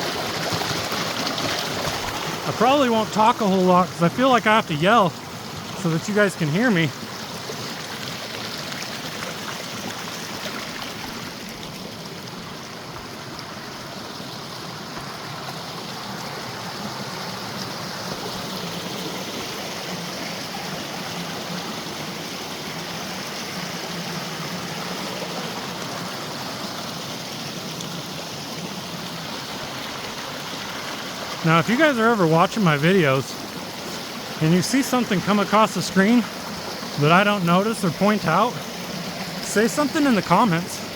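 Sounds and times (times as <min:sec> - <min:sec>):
creek rushing over rocks: 0:00.0 - 0:40.9.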